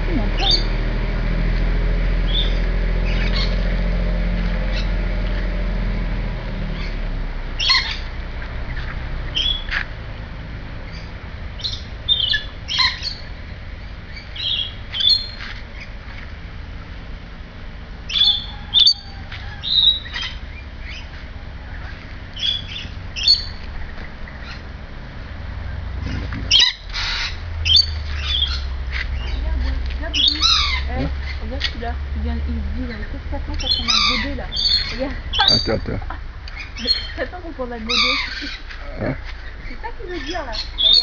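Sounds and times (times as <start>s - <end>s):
birds squawking and chirping: 0.0s - 1.1s, 1.8s - 10.0s, 10.7s - 16.4s, 17.9s - 41.0s
low rumble: 0.0s - 41.0s.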